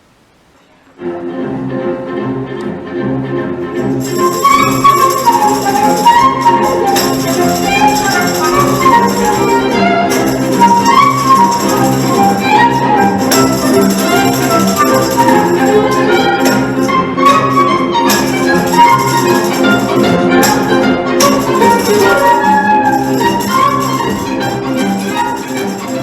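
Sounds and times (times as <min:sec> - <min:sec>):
orchestral tarantella music: 0:01.0 - 0:26.0
tambourine jingles: 0:03.9 - 0:26.0.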